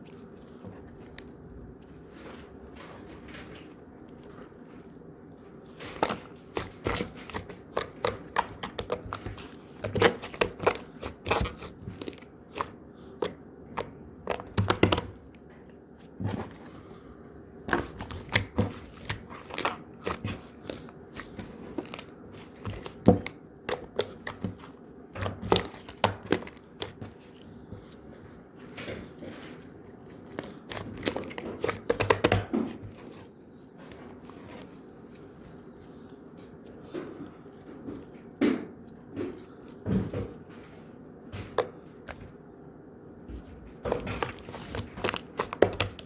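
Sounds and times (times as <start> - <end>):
crinkling and clicking of handling: 0.0 - 46.0.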